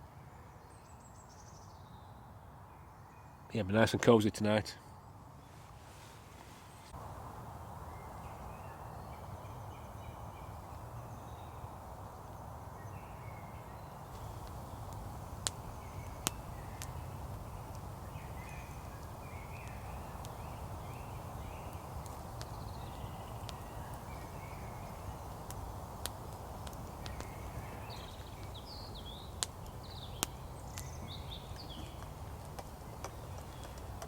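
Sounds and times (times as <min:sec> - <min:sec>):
woodland background hiss: 0:00.2 - 0:34.0.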